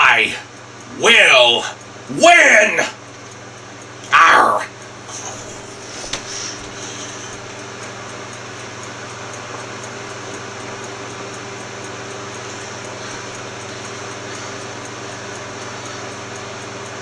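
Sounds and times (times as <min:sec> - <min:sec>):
faint high ticking: 0:00.0 - 0:17.0
fan hum and hiss: 0:00.0 - 0:17.0.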